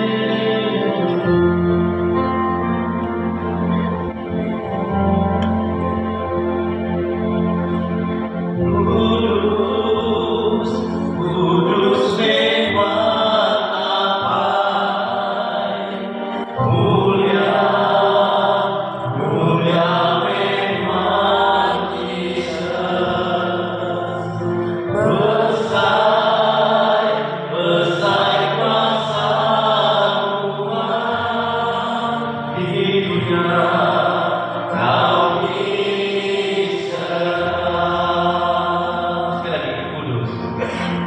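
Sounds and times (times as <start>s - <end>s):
group singing a hymn: 0.0s - 5.6s, 8.5s - 41.0s.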